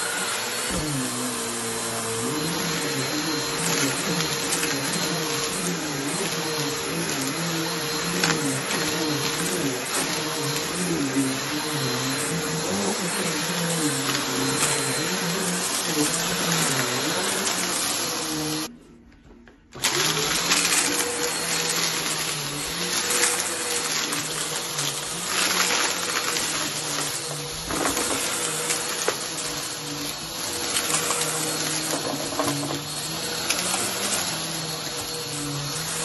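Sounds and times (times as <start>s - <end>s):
vacuum cleaner running over rug: 0.0s - 18.7s, 19.8s - 36.0s.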